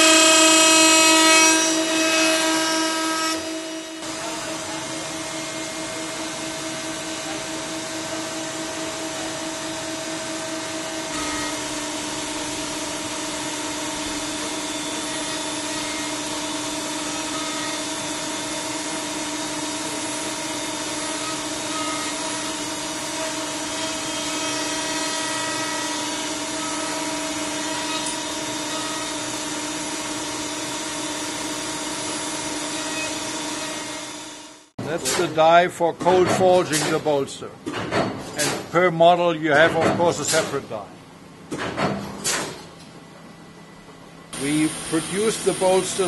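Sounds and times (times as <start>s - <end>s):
machine whining tones: 0.0s - 34.7s, 43.1s - 46.0s
factory machinery hum and hiss: 0.0s - 46.0s.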